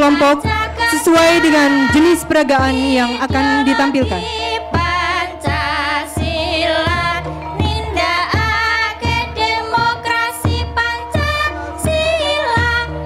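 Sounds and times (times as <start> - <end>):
steady drum beat: 0.0 - 12.9
high voice singing with vibrato: 0.0 - 13.0.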